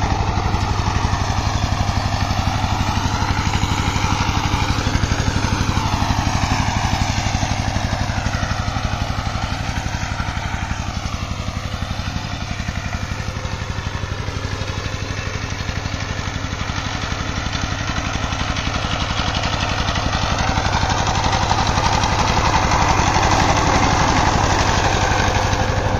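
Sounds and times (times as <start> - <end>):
diesel engine chugging: 0.0 - 25.9
rotary tiller working soil: 0.0 - 25.9.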